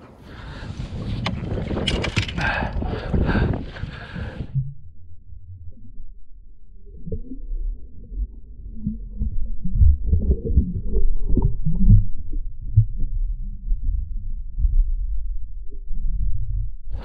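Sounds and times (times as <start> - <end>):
muffled underwater water sloshing: 0.0 - 17.0.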